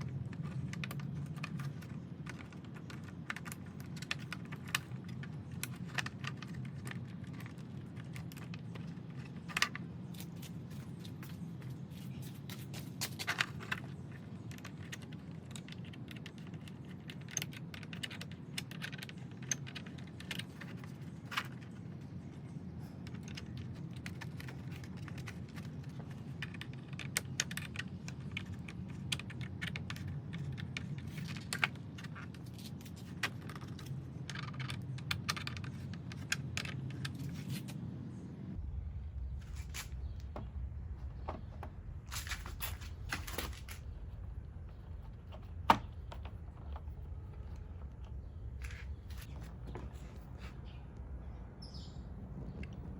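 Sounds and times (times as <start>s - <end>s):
light clicks and rattles: 0.0s - 37.8s, 39.2s - 51.8s
steady low hum: 0.0s - 52.9s.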